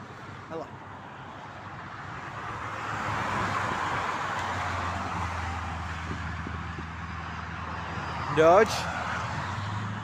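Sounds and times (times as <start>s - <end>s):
tyre and road noise: 0.0s - 10.0s.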